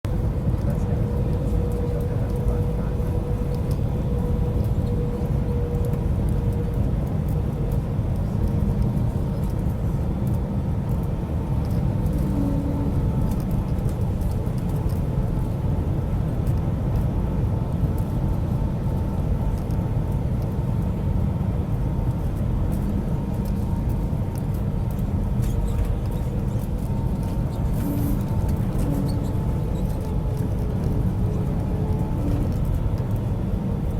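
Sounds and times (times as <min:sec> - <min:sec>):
airliner low roar: 0:00.1 - 0:33.9.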